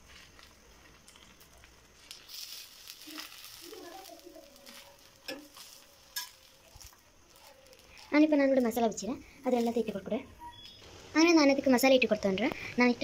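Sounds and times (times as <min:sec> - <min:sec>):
egg sizzling in oil: 0:00.0 - 0:11.9.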